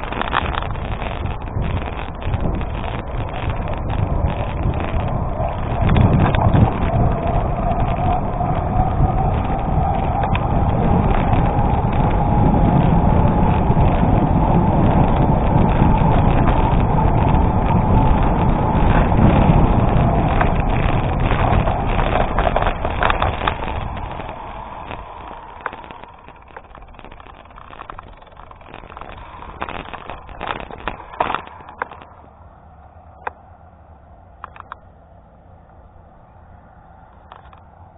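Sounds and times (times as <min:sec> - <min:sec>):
tyres crunching over gravel: 0:00.0 - 0:32.4
scattered clicks: 0:00.0 - 0:33.5, 0:34.4 - 0:34.9, 0:37.1 - 0:37.8
faint steady whine: 0:00.0 - 0:37.9
wind on microphone: 0:00.0 - 0:37.9.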